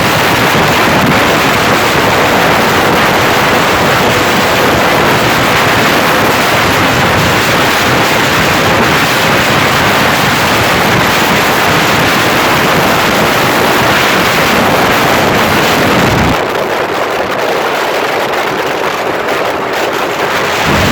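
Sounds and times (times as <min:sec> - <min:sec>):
motorcycle engine running loud: 0:00.0 - 0:20.9.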